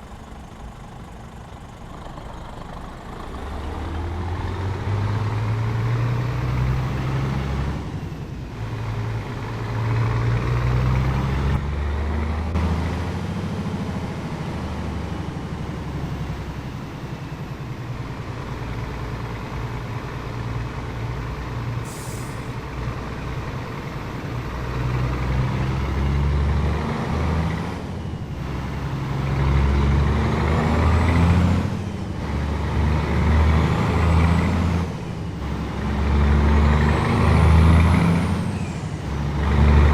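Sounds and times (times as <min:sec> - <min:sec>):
truck diesel engine revving: 0:00.0 - 0:39.9.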